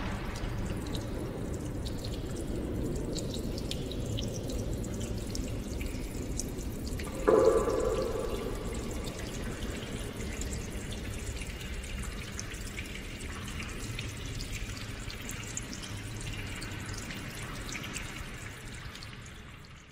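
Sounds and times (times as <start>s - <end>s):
running water: 0.0s - 19.9s
water dripping: 0.0s - 19.9s.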